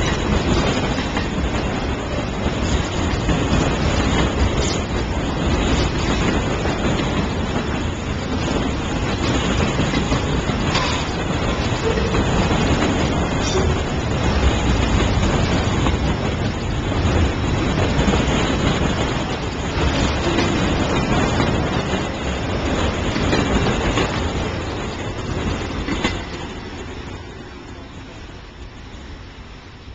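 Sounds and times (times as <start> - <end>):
train wheels clicking: 0.0 - 27.8
train wheel and rail rumble: 0.0 - 29.9.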